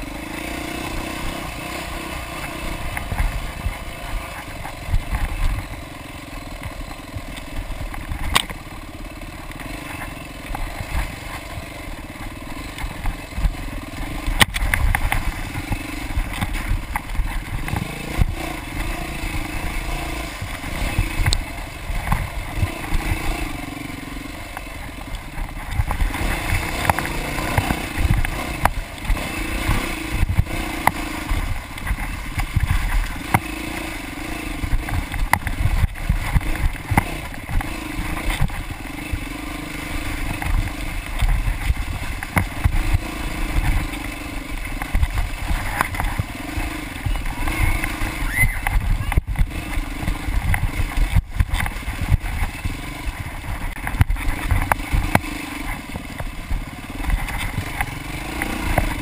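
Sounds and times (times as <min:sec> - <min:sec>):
bike knocks and rattles: 0:00.0 - 0:59.0
dirt bike engine revving: 0:00.0 - 0:59.0.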